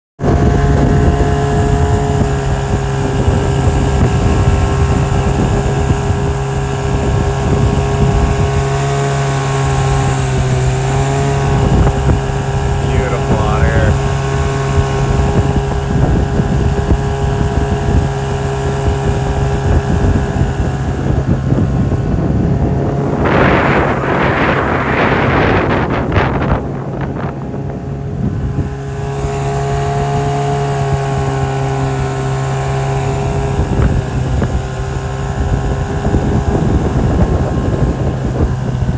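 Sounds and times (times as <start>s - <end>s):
boat engine running: 0.2s - 38.9s
wind buffeting microphone: 0.2s - 38.9s.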